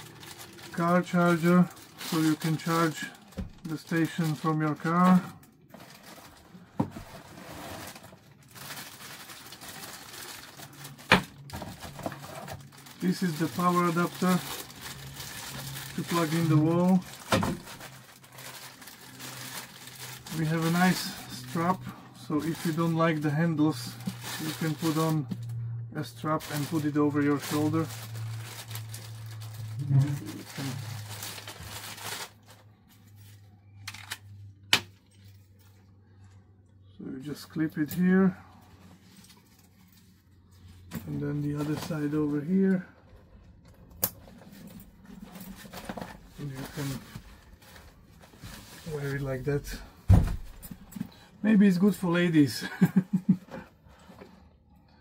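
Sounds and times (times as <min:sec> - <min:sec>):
plastic bags and cardboard rustling: 0:00.0 - 0:36.4, 0:37.2 - 0:54.5.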